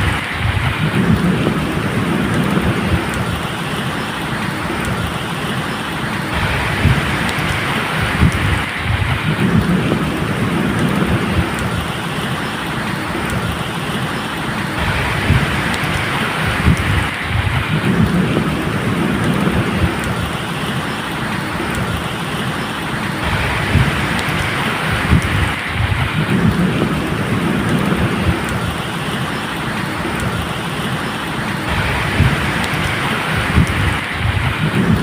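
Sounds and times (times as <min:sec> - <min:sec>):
low thunder rumbling: 0:00.0 - 0:35.0
steady rain falling: 0:00.0 - 0:35.0.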